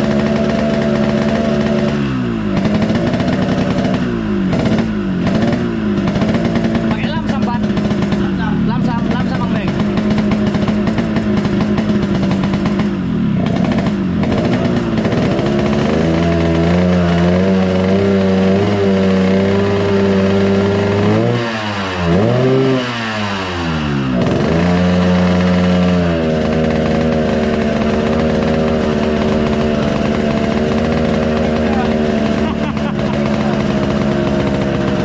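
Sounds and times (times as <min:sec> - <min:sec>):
two-stroke engine running: 0:00.0 - 0:35.0.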